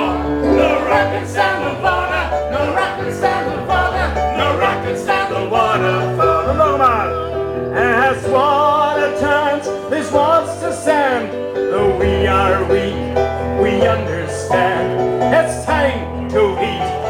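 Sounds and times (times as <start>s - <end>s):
instrumental accompaniment with bass: 0.0s - 17.0s
voices singing: 0.0s - 17.0s.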